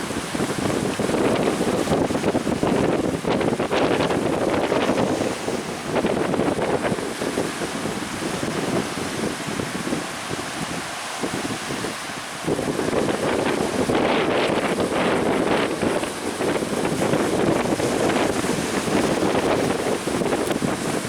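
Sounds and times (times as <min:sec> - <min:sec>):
waves splashing against boat: 0:00.0 - 0:21.0
wind buffeting microphone: 0:00.0 - 0:21.0.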